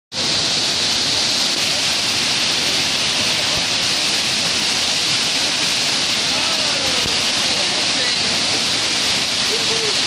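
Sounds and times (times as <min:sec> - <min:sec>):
churning whitewater rushing: 0:00.1 - 0:10.0.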